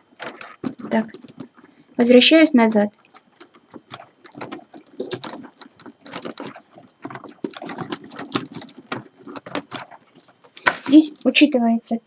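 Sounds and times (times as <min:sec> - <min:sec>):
paper tubes rustling and clicking: 0:00.0 - 0:11.5.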